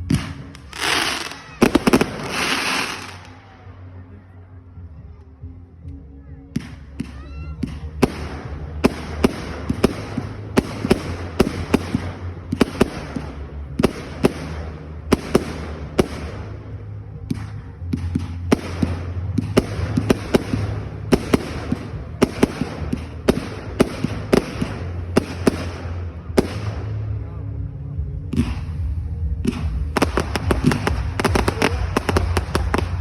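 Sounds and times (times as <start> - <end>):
fireworks bangs and cracks: 0.0 - 3.4, 6.6 - 27.2, 28.3 - 33.0
low rumble: 3.2 - 33.0.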